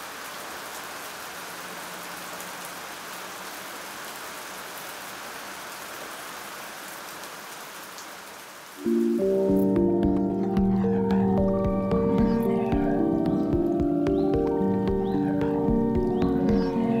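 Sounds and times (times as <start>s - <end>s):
rain on a hard surface: 0.0s - 17.0s.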